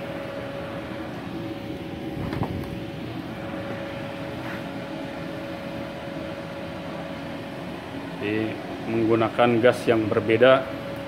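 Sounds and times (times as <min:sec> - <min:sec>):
welder fan humming: 0:00.0 - 0:11.0.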